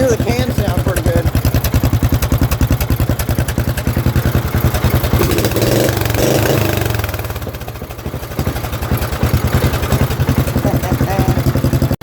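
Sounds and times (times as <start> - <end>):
lawnmower engine chugging: 0.0 - 12.0.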